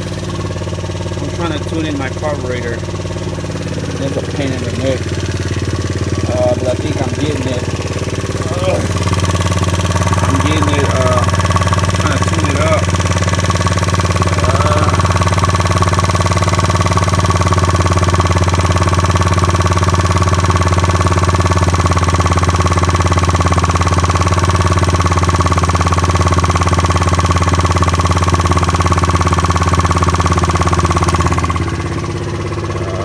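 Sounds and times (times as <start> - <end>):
scooter engine idling: 0.0 - 33.0.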